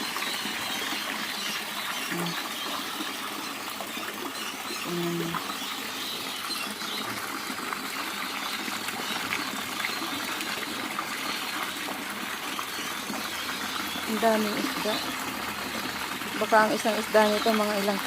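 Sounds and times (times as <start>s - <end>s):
running water in pond: 0.0s - 18.0s.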